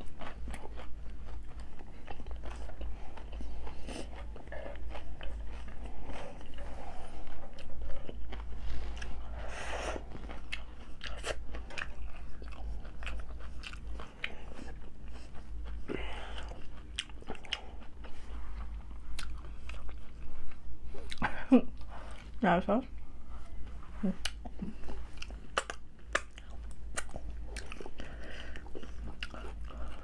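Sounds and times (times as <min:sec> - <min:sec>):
chewing: 0:00.0 - 0:30.0
steady low hum: 0:00.0 - 0:30.0.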